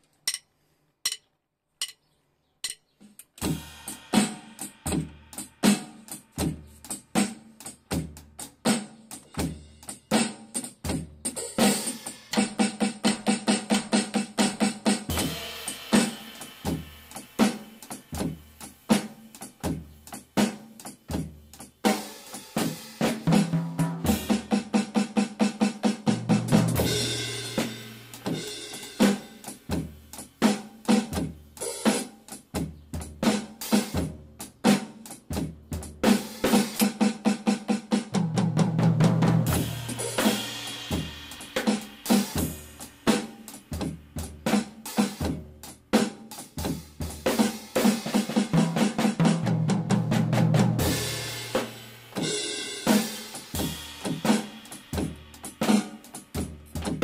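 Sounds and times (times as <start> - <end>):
drum kit shuffle groove: 2.6 - 57.0.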